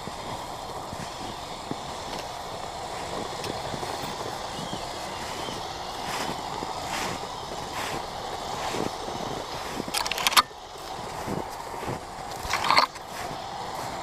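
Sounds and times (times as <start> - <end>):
electric motors running: 0.0 - 14.0
tracks crunching through snow: 0.0 - 14.0.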